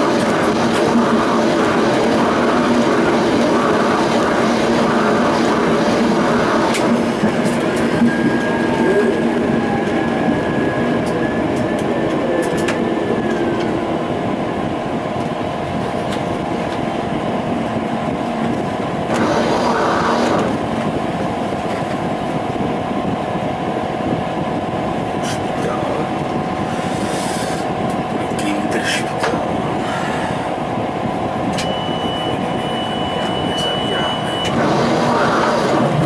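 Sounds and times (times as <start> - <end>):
high whine: 0.0 - 36.0
tram rumbling along rails: 0.0 - 36.0.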